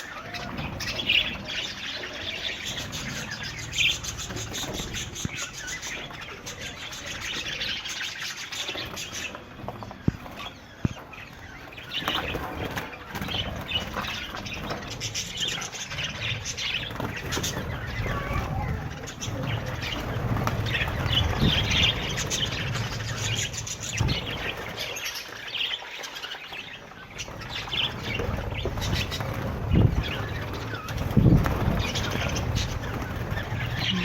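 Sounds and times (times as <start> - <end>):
budgerigars chirping and chattering: 0.0 - 34.0
wings fluttering: 0.0 - 34.0.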